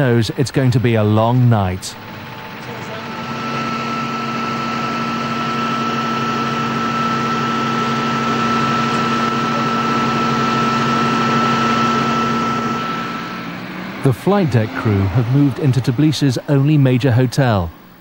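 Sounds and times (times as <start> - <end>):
jet turbine whine: 0.0 - 18.0.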